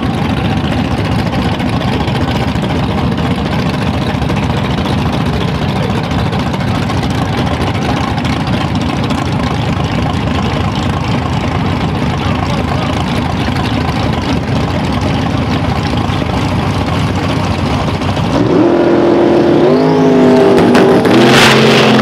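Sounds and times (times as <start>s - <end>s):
car engine idling loudly: 0.0s - 22.0s.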